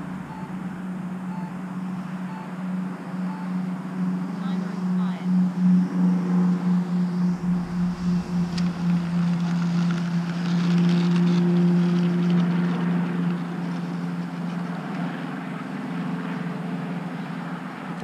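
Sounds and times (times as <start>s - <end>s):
wind noise on microphone: 0.0s - 15.6s
electric motor and propeller humming: 0.0s - 18.0s.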